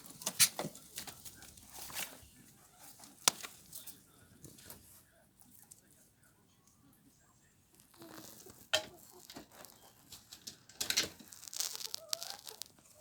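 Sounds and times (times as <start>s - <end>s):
poultry rustling: 0.0s - 13.0s.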